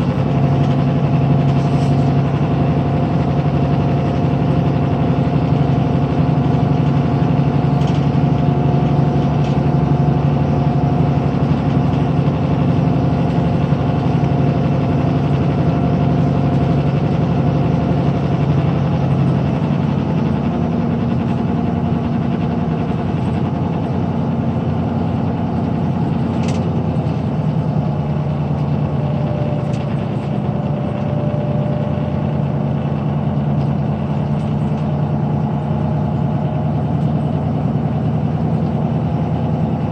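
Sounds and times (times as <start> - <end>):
diesel coach engine cruising: 0.0 - 39.9
road noise: 0.0 - 39.9.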